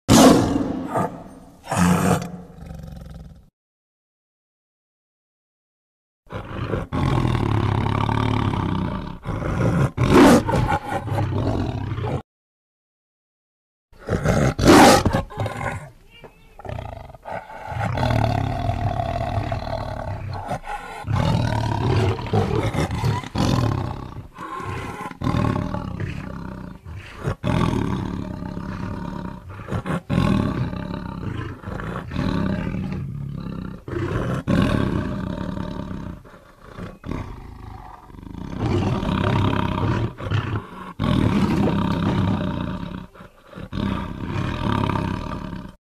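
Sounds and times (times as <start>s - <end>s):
tiger roaring: 0.1s - 3.5s, 6.3s - 12.2s, 14.0s - 15.9s, 16.6s - 45.8s.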